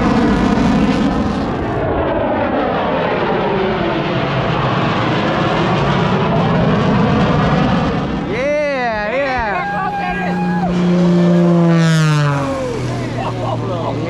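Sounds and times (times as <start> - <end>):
airplane engine roar: 0.0 - 14.0.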